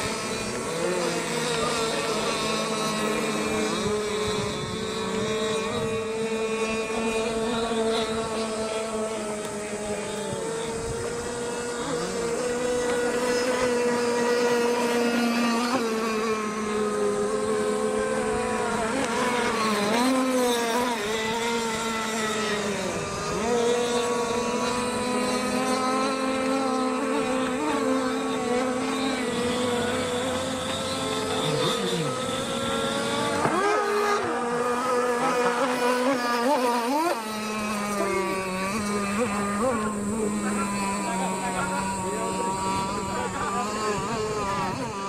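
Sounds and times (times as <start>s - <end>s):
two-stroke boat engines screaming: 0.0s - 45.0s.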